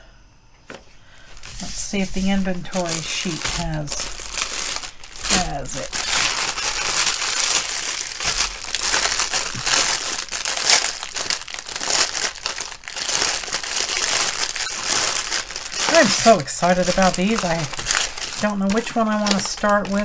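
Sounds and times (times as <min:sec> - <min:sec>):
plastic packaging crinkling: 0:01.2 - 0:20.0.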